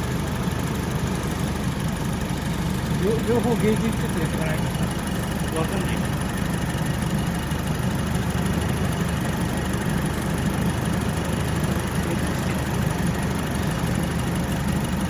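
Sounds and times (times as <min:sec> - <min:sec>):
air conditioning running: 0:00.0 - 0:15.0
car engine idling: 0:00.0 - 0:15.0.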